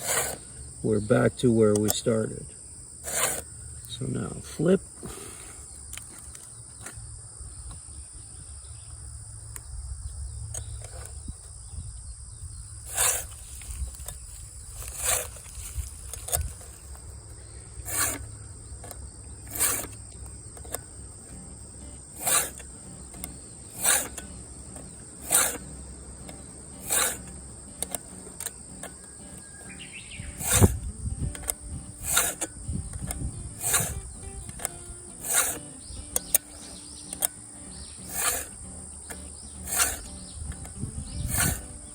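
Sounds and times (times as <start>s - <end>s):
file rasping on chainsaw chain: 0.0s - 4.4s, 10.6s - 11.3s, 12.8s - 41.9s
high insect drone: 0.0s - 41.9s.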